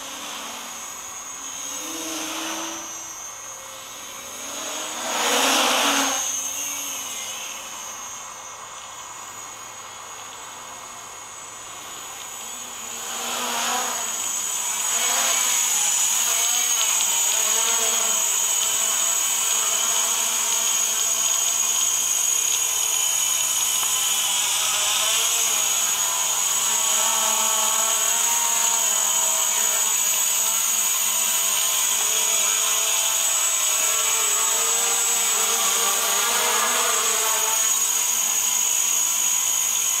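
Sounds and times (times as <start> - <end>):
drone propellers whining: 0.0 - 40.0.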